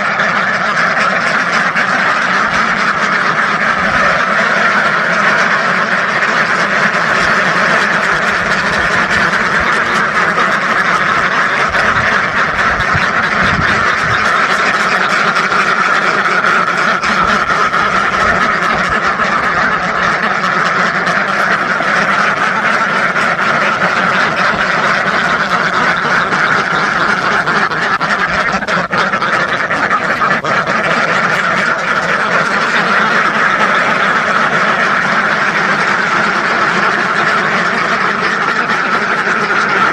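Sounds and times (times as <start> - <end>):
flock of ducks quacking: 0.0 - 39.9.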